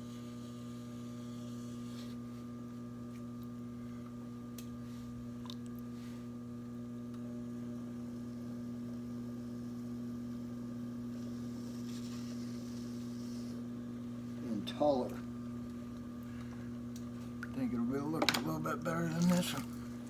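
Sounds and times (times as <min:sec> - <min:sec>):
potter's wheel motor humming: 0:00.0 - 0:20.0.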